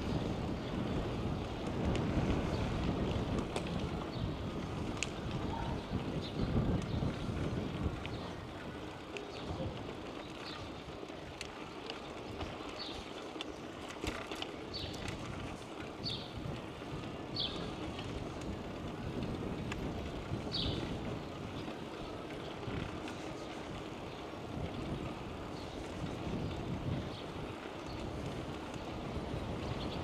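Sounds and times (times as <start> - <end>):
bicycle rolling noise: 0.0 - 30.0
wind from bicycle ride: 0.0 - 30.0.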